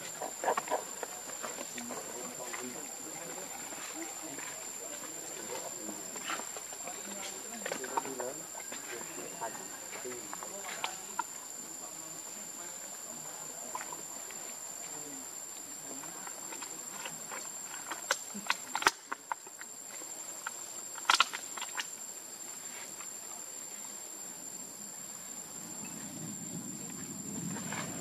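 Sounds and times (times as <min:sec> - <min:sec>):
insects high-pitched buzzing: 0:00.0 - 0:28.0.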